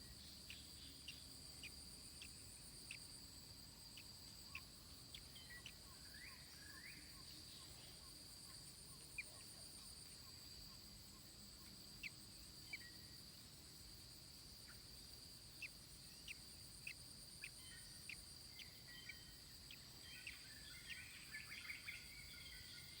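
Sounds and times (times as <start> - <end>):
bird chirps: 0.0 - 13.2, 15.6 - 23.0
insect drone: 0.0 - 23.0.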